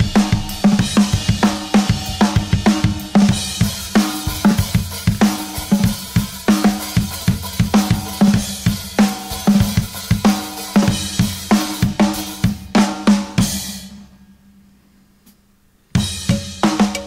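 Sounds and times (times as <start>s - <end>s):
acoustic drum kit rock beat: 0.0s - 14.1s, 16.0s - 17.0s.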